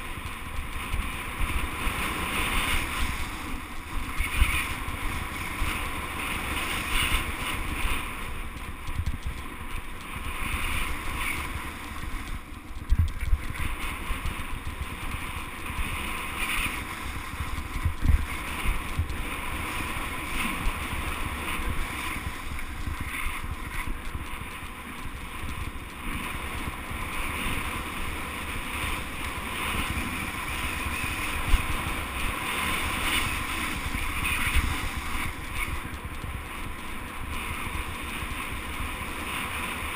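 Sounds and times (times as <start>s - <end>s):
bike tyres rolling on dirt: 0.0s - 39.9s
wind buffeting microphone: 0.0s - 39.9s.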